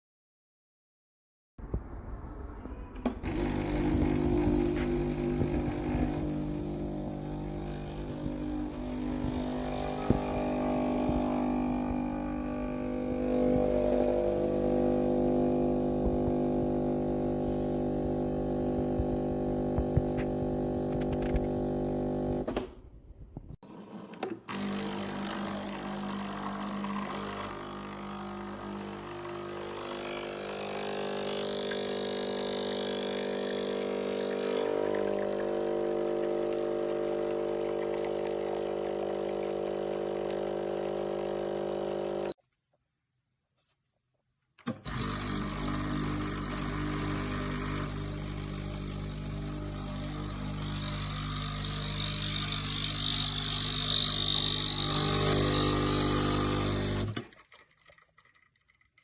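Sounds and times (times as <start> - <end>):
espresso machine humming: 3.0 - 22.5, 24.5 - 42.4, 44.9 - 57.2
espresso machine hiss: 3.2 - 22.5, 26.7 - 42.4, 44.9 - 57.2.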